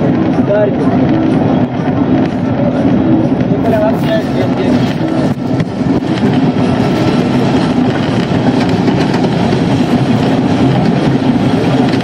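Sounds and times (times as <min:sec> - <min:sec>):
train carriage rattle: 0:00.0 - 0:12.0
train wheels rolling on rails: 0:00.0 - 0:12.0.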